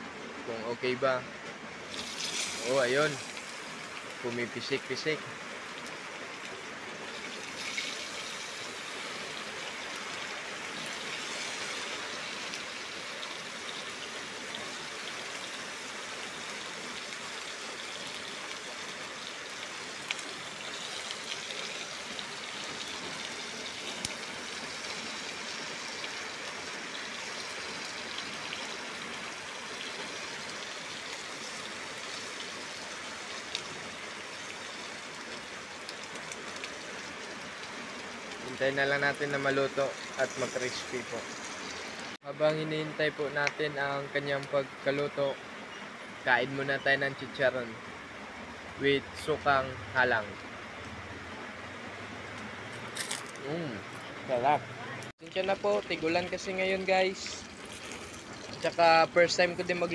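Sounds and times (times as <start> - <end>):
food frying in hot oil: 1.8 - 59.9.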